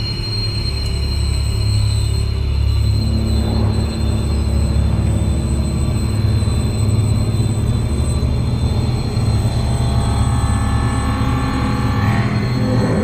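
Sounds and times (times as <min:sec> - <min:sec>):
high ringing tones: 0:00.0 - 0:13.0
low drone: 0:00.0 - 0:13.0.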